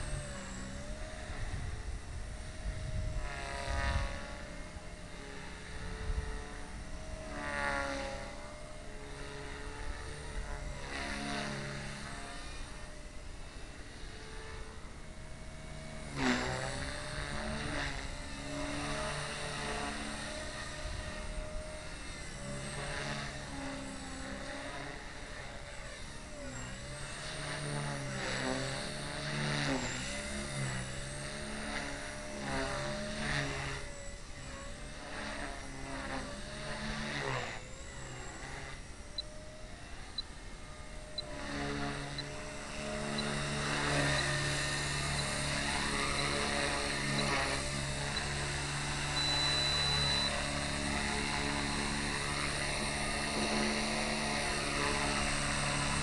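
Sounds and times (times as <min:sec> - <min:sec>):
rc helicopter motor and rotor whine: 0:00.0 - 0:56.0.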